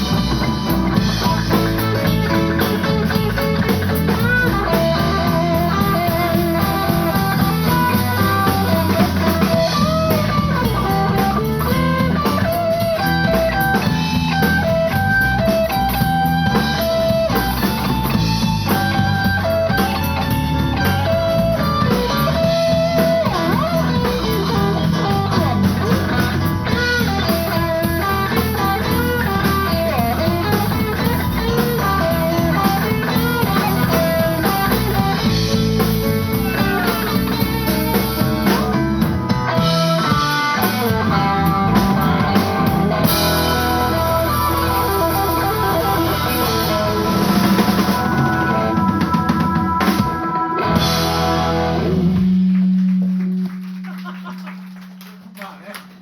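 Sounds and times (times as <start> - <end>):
bass: 0.0 - 56.0
drum kit: 0.0 - 56.0
electric guitar: 0.0 - 56.0.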